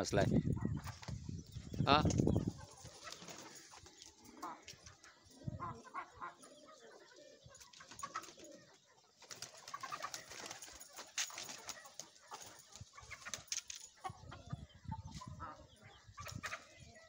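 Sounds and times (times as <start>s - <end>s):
chickens calling: 0.0s - 17.0s
pigeons cooing: 2.3s - 17.0s.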